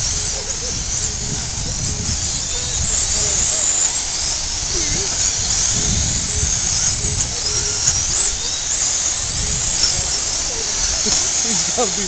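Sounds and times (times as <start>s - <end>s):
rc car motors whining: 0.0s - 12.0s
steady hiss: 0.0s - 12.0s.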